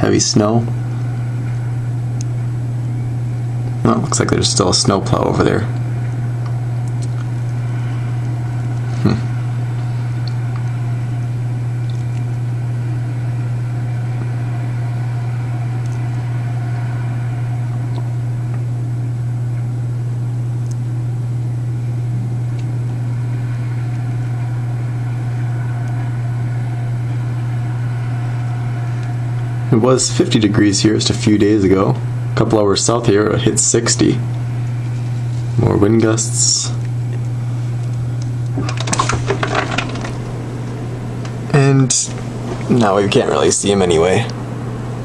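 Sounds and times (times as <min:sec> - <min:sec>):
engine drone with high tones: 0:00.0 - 0:45.0.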